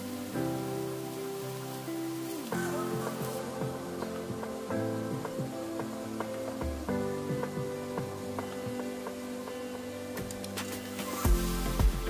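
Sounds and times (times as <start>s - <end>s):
instrumental music with sustained chords: 0.0s - 12.0s.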